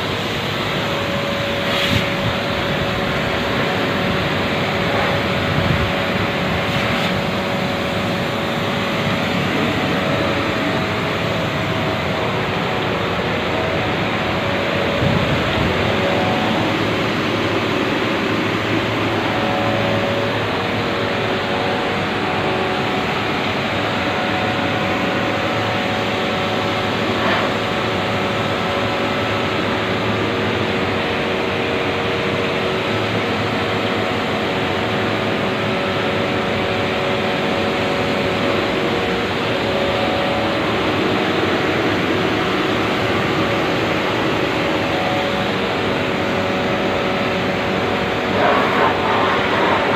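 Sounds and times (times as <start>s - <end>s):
machine whirring and humming: 0.0s - 49.9s.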